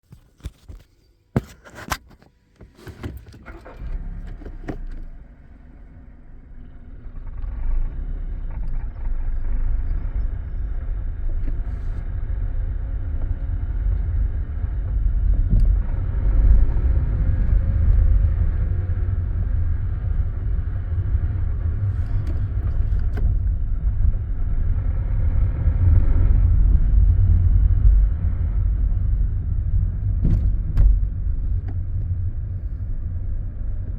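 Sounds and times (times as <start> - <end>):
car low rumble accelerating: 3.4 - 33.9.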